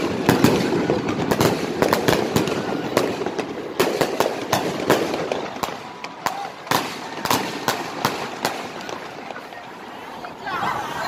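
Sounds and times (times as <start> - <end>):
fireworks bangs: 0.0 - 10.5
fireworks crackle: 0.0 - 10.5.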